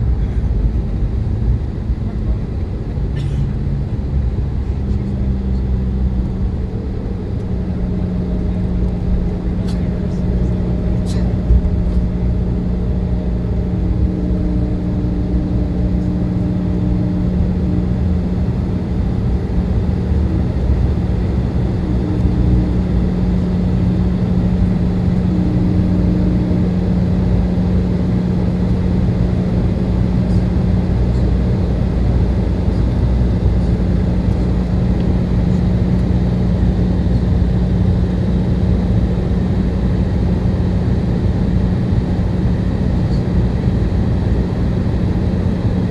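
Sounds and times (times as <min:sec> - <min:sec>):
constant low hum: 0:00.0 - 0:45.9
jet engine drone: 0:00.0 - 0:45.9.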